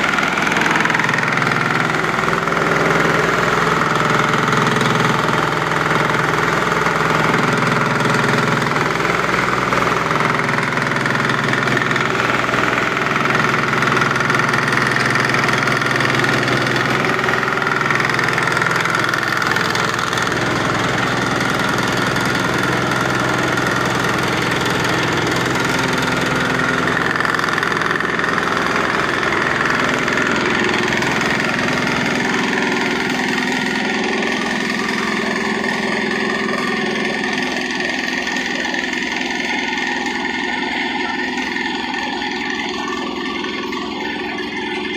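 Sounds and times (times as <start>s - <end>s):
grinding machine droning: 0.0s - 44.9s.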